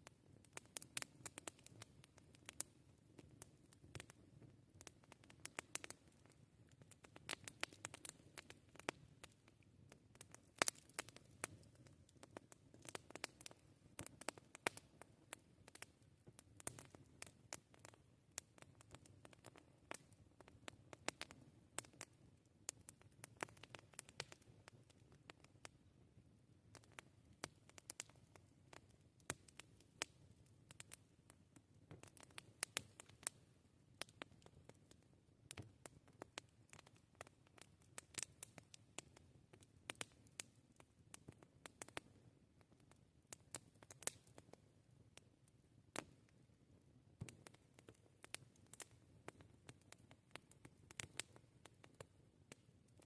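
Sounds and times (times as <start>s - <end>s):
campfire crackling and popping: 0.0s - 53.0s
low rumble of burning fire: 0.0s - 53.0s.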